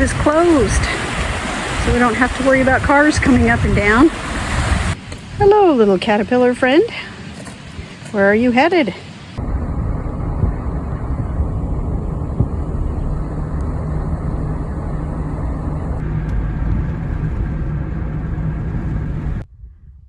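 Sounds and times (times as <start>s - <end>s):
wind buffeting microphone: 0.0s - 6.5s, 9.4s - 20.0s.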